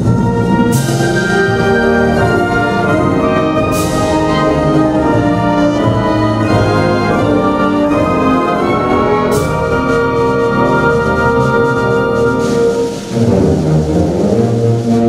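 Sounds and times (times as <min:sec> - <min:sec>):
wind band playing chords: 0:00.0 - 0:15.0.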